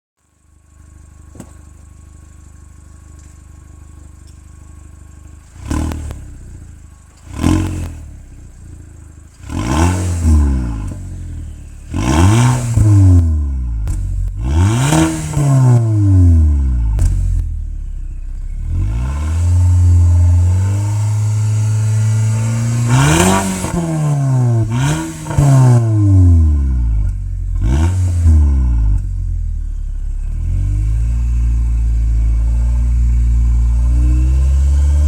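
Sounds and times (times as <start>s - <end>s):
car engine idling and revving: 0.2s - 35.0s.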